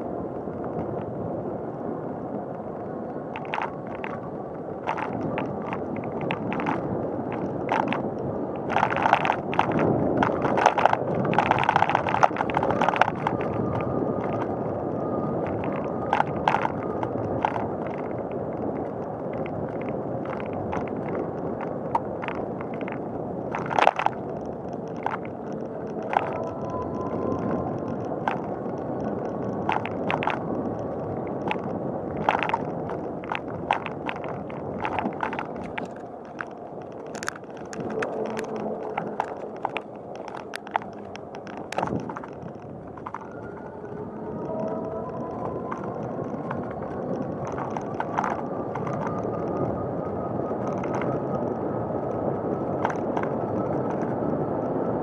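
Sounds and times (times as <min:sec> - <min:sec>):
bicycle tyres rolling on pavement: 0:00.0 - 0:55.0
bike rattling clicks: 0:03.3 - 0:55.0.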